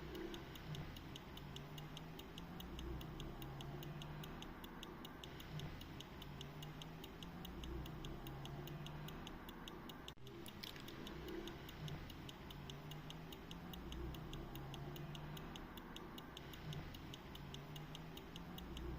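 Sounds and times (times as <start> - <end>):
pocket watch ticking fast: 0.0 - 18.9.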